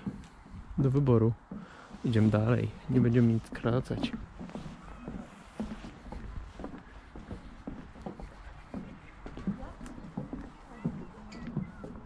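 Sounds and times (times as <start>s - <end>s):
footsteps walking: 0.0s - 12.0s.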